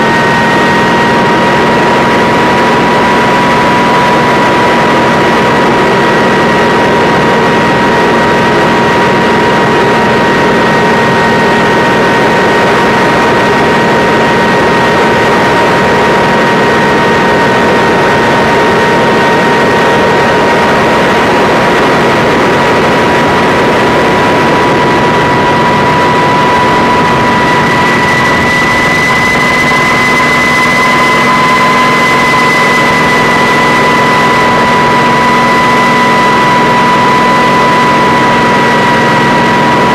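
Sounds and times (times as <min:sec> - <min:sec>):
helicopter engines and rotors: 0:00.0 - 0:39.9
high whine: 0:00.0 - 0:39.9.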